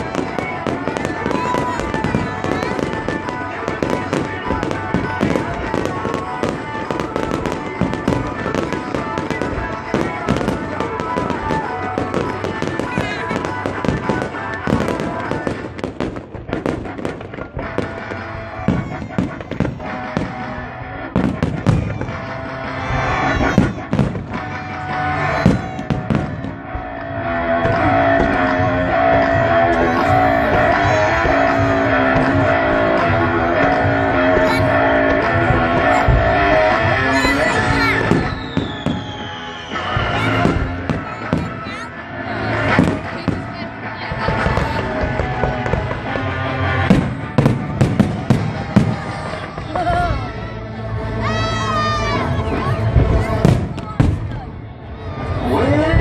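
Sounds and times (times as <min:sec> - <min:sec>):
fireworks bursting and banging: 0:00.0 - 0:56.0
loud soundtrack music with guitar: 0:00.0 - 0:56.0.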